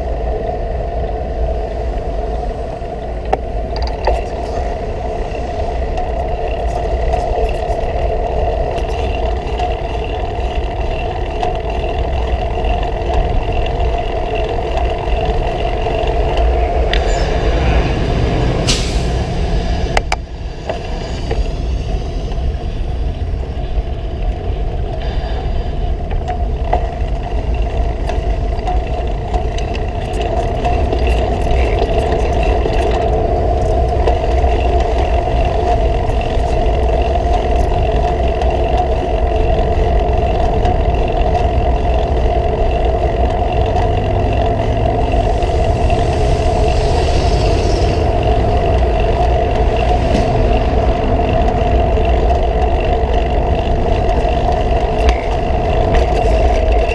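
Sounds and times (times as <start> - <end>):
bicycle rolling: 0.0 - 56.9
constant hum: 0.0 - 56.9
motor traffic: 0.0 - 56.9
wind: 0.0 - 56.9.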